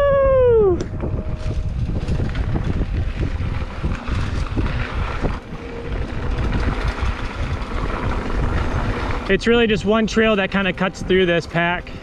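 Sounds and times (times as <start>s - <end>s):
wind rumbling on microphone: 0.0s - 12.0s
mountain bike rattling on dirt: 0.9s - 12.0s.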